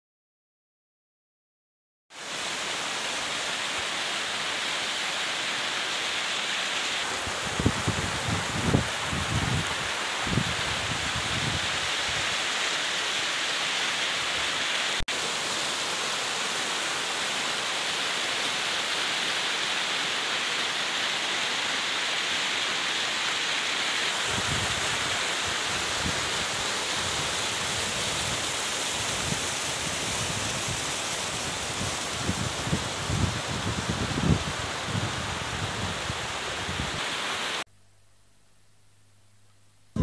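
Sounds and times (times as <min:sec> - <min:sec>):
water rushing down rocks: 0:02.1 - 0:37.6.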